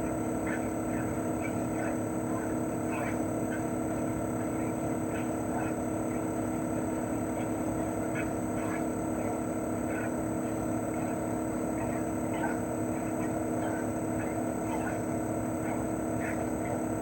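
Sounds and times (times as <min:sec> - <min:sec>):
compressor hum: 0:00.0 - 0:17.0.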